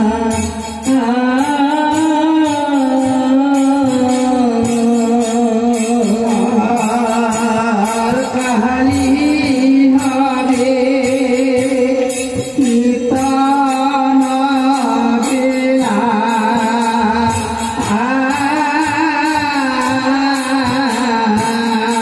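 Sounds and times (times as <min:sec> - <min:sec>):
hand cymbals: 0:00.0 - 0:22.0.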